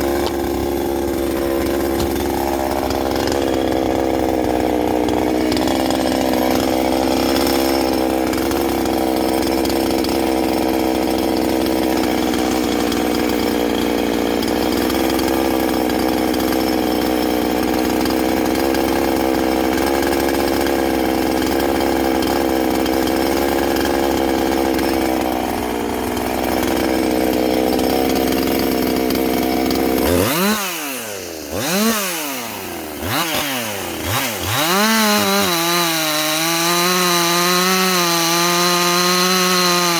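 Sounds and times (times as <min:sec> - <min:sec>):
chainsaw engine running high: 0:00.0 - 0:39.9
chainsaw throttle blips: 0:00.0 - 0:39.9.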